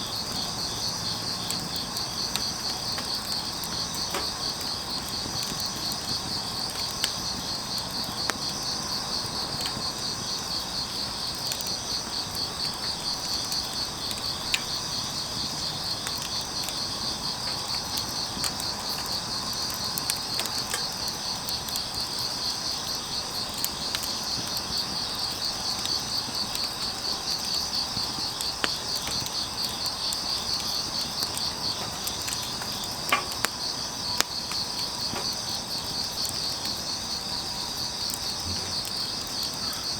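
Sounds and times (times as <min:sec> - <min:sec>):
crickets chirping: 0:00.0 - 0:39.9
firewood crackling pops: 0:00.1 - 0:39.9.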